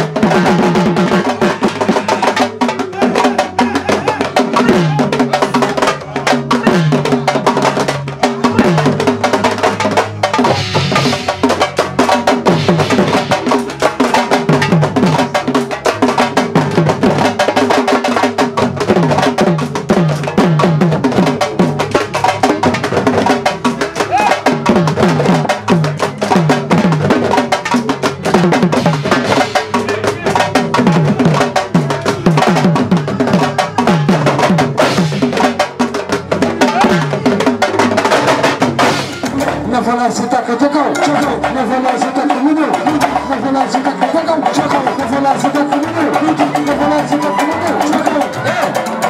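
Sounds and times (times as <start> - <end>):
drum ensemble playing fast rhythm: 0.0 - 49.0.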